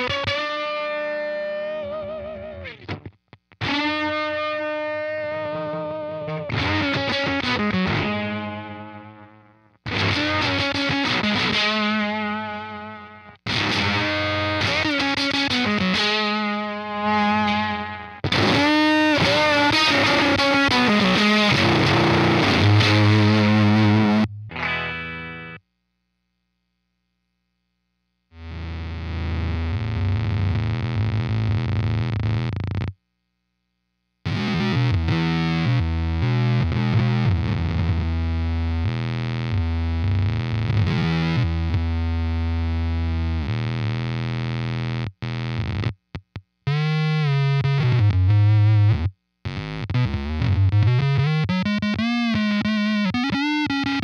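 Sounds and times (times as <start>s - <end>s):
distorted electric guitar riffs: 0.0s - 25.7s, 28.3s - 33.0s, 34.2s - 54.0s.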